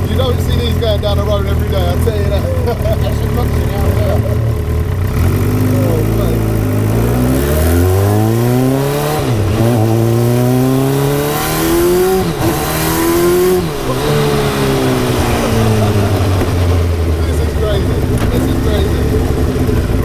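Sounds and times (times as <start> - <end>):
engine accelerating with upshifts: 0.0 - 20.0.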